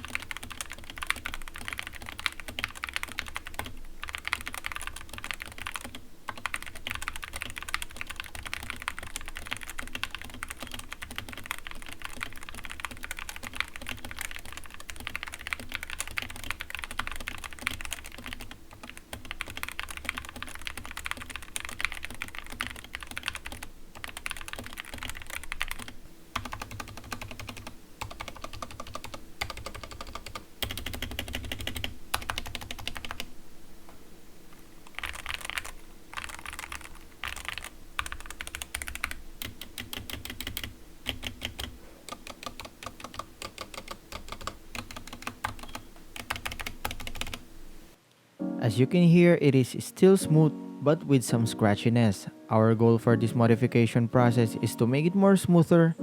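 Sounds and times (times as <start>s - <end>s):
keyboard keys clacking: 0.0s - 33.3s, 34.8s - 47.4s.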